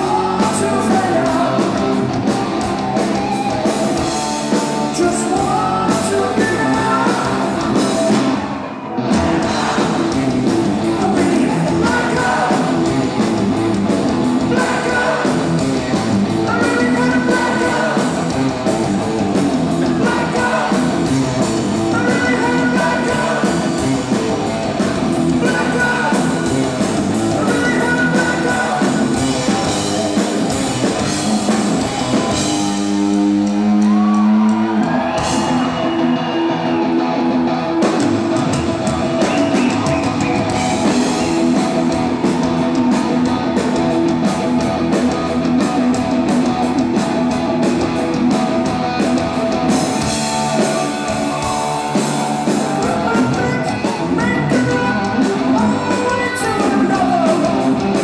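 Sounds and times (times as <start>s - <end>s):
distorted electric guitar: 0.0s - 58.0s
drum kit: 0.0s - 58.0s
electric bass: 0.0s - 58.0s
rock vocals: 0.0s - 58.0s.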